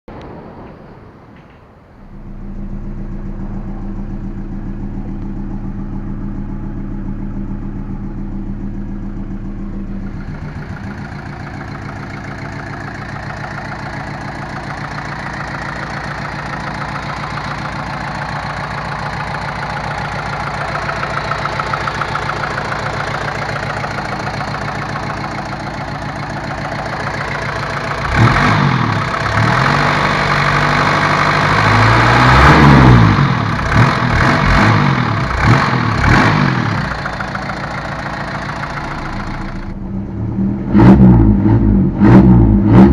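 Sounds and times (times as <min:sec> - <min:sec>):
diesel engine idling: 0:02.0 - 0:40.7
engine revving: 0:02.2 - 0:42.9.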